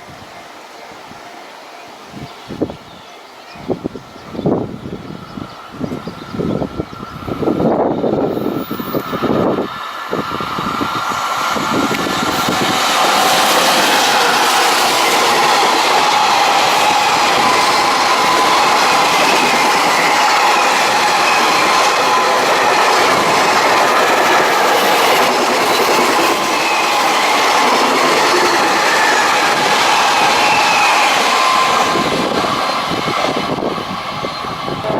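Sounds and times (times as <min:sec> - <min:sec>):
train wheels on track: 0:00.0 - 0:34.9.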